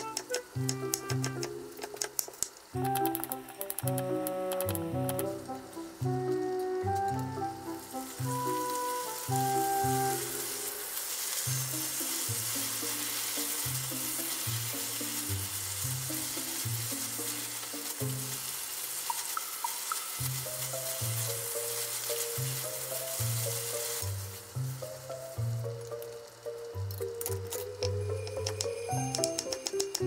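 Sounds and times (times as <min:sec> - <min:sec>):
background music: 0:00.0 - 0:30.0
sauce sizzling in a frying pan: 0:05.4 - 0:30.0.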